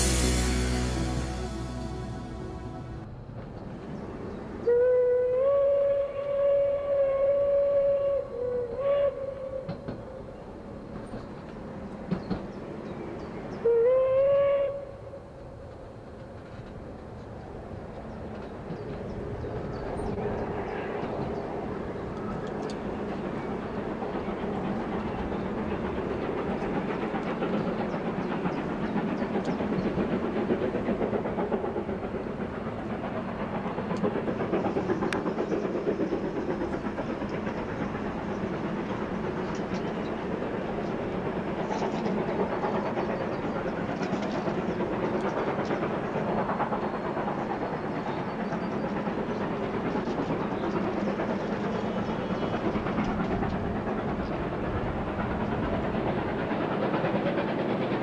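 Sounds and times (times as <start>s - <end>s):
steam locomotive working: 0.0s - 58.0s
train wheels on rails: 0.0s - 58.0s.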